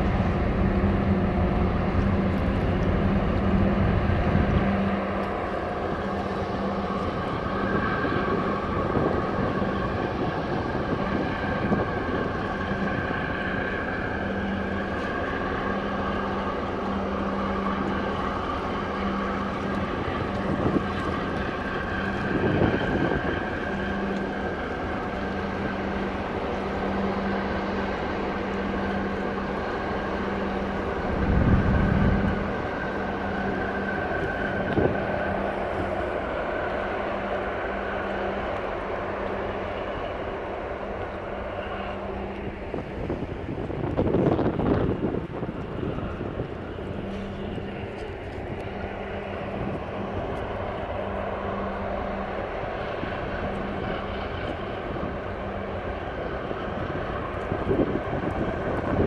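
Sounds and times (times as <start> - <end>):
low hum: 0.0 - 59.0
ship engines droning: 0.0 - 59.0
wind buffeting microphone: 0.0 - 59.0.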